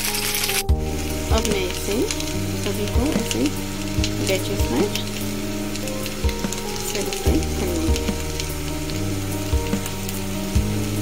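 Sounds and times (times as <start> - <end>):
background music with low notes: 0.0 - 11.0
food sizzling in hot oil: 0.0 - 11.0
tempering crackling: 0.0 - 11.0.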